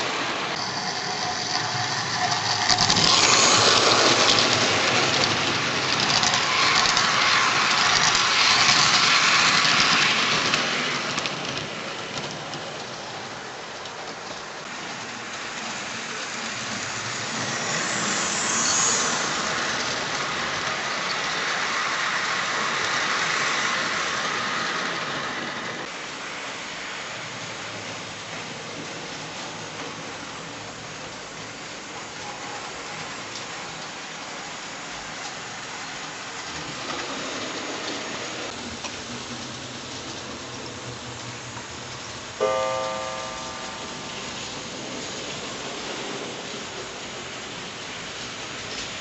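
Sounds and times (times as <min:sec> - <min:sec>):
model train running on track: 0:00.0 - 0:49.0.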